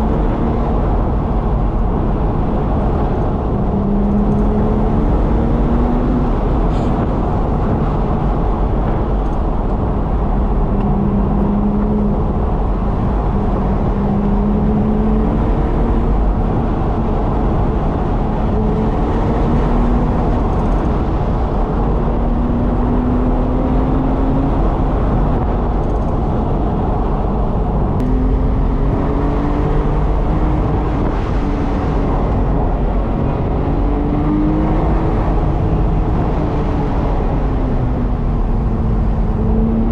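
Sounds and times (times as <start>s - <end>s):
car engine humming: 0.0s - 39.9s
road noise rumble: 0.0s - 39.9s.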